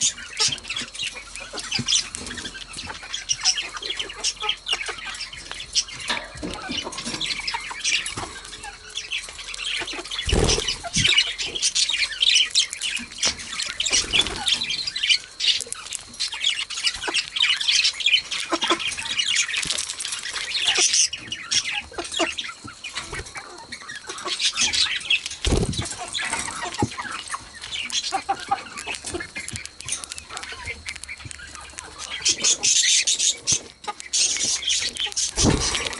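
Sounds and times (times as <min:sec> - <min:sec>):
budgerigars chattering: 0:00.0 - 0:35.9.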